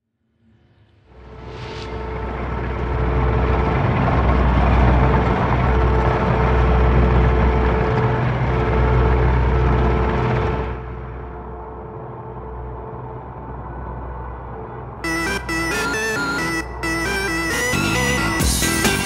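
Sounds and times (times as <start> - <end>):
industrial machinery rumble: 1.0 - 19.0.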